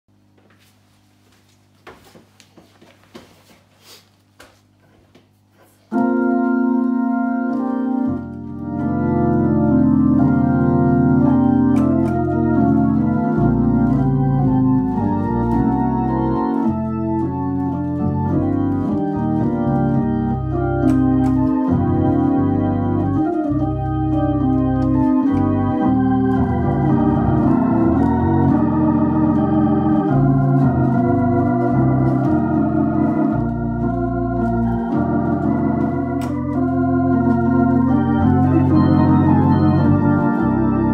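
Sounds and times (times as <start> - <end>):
organ through rotary speaker: 5.6 - 40.9.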